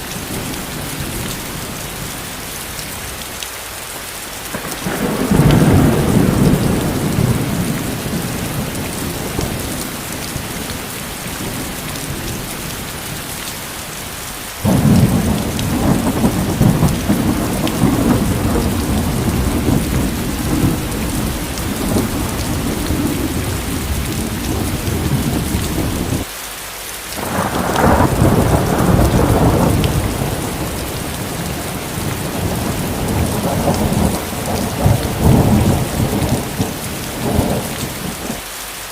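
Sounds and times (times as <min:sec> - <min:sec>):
rain falling: 0:00.0 - 0:38.9
rolling thunder: 0:04.5 - 0:26.3, 0:27.2 - 0:38.4.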